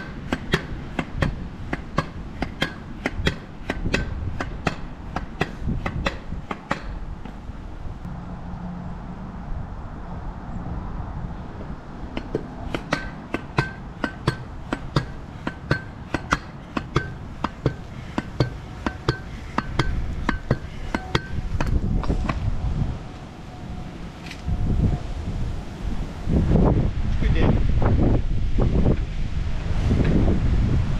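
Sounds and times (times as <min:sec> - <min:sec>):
wind rumble on microphone: 0:00.0 - 0:16.2, 0:16.8 - 0:30.9.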